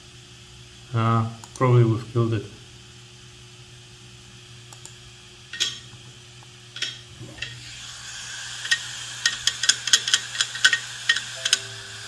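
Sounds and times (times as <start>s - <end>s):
hard disk hiss: 0.0s - 12.0s.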